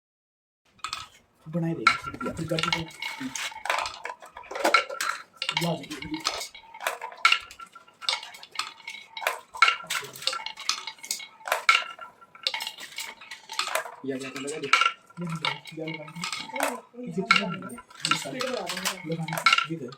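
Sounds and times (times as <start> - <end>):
toy pieces clattering: 0.7 - 19.9.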